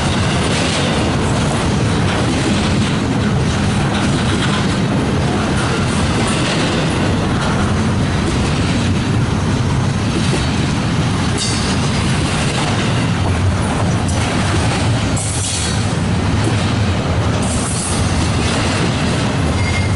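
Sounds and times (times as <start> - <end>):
freight train wheels rumbling: 0.0 - 19.9
rail joint clatter: 0.0 - 19.9.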